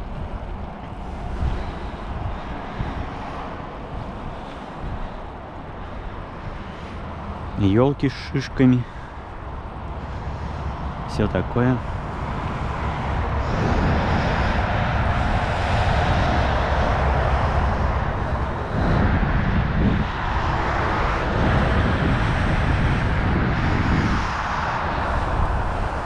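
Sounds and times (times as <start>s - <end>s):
rolling tyre noise: 0.0s - 26.0s
wind buffeting microphone: 0.0s - 26.0s.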